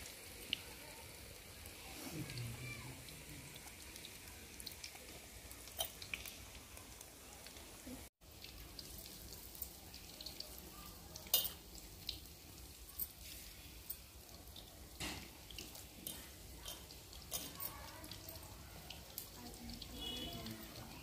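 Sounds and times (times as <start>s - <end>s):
pakoras frying in oil: 0.0s - 21.0s
sharp crack in frying oil: 3.6s - 21.0s.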